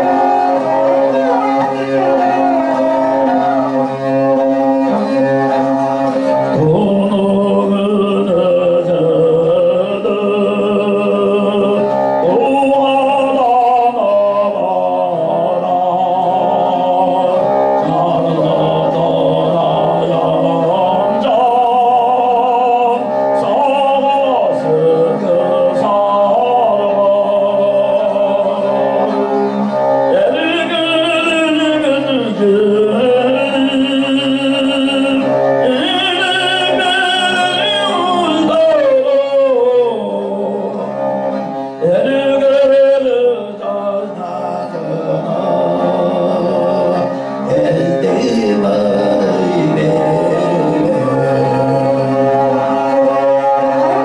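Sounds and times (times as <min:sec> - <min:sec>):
bowed fiddle drone: 0:00.0 - 0:54.0.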